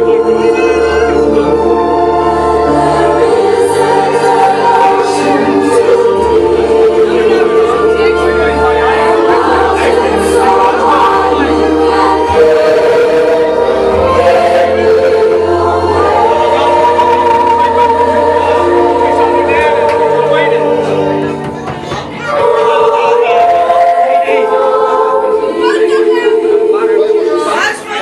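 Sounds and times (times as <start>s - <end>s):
women's choir singing: 0.0s - 28.0s.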